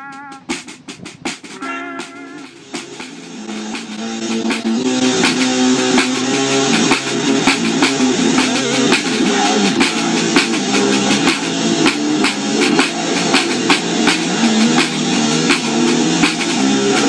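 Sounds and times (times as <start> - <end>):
loud music with guitar and drums: 0.0 - 17.0.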